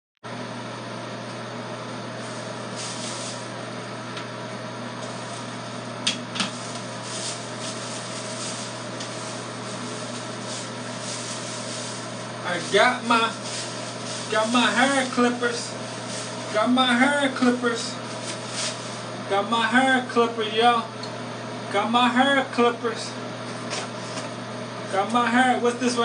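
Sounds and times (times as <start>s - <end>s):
mechanical hum and hiss: 0.3s - 26.0s.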